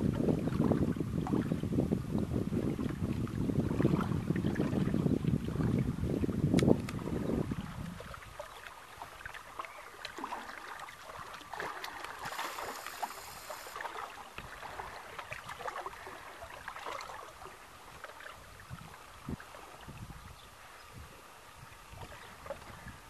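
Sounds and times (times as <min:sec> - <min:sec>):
small waves lapping: 0:02.6 - 0:23.0.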